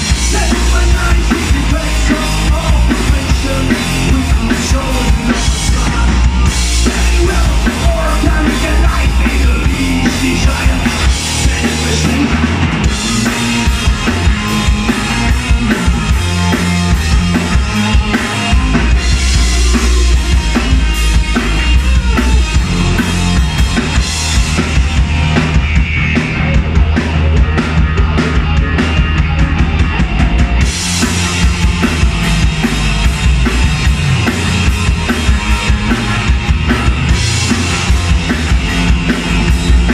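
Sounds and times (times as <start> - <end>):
drum kit with kick and snare: 0.0 - 39.9
electric bass: 0.0 - 39.9
electric guitar: 0.0 - 39.9.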